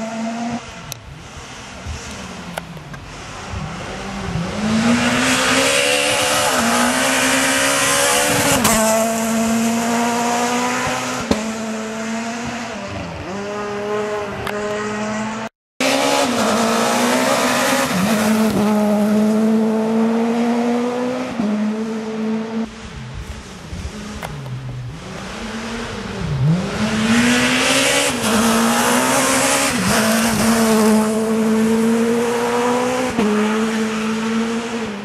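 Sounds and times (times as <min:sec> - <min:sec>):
rally car engine at full throttle: 0:00.0 - 0:35.0.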